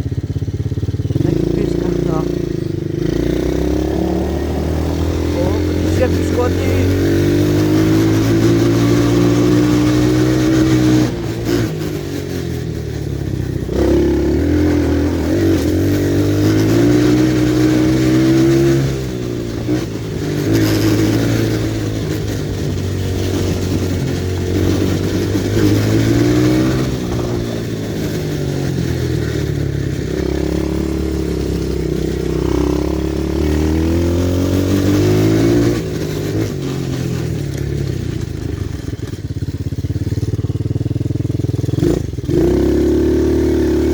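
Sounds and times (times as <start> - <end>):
pit bike engine revving: 0.8 - 39.5, 40.2 - 43.9.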